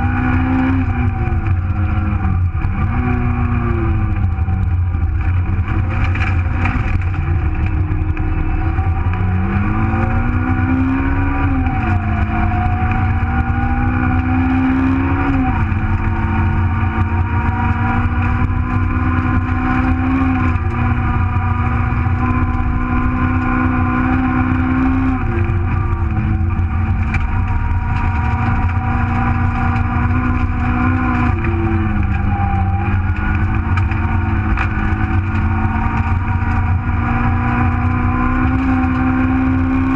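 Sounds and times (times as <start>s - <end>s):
car engine revving: 0.0s - 39.9s
road and tyre rumble: 0.0s - 39.9s.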